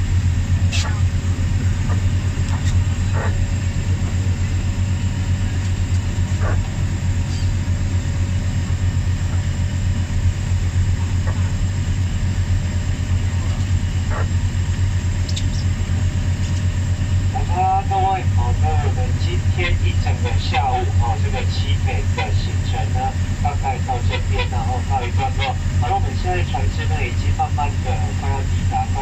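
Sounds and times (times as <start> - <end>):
boat engines low drone: 0.0 - 29.0.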